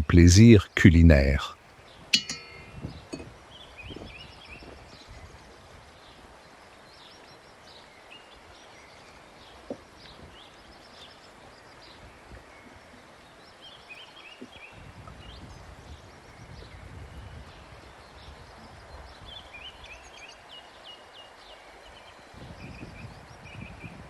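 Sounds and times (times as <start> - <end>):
small birds chirping: 1.2 - 24.0.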